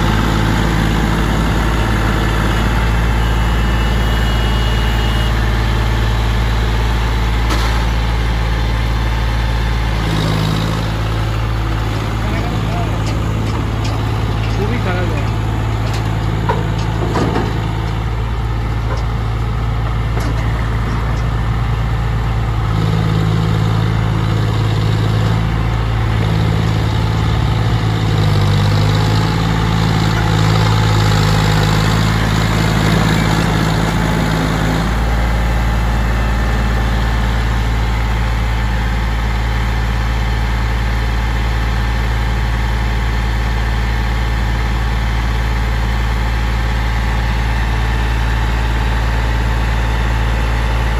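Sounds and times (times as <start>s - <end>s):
diesel tractor engines under load: 0.0s - 50.9s.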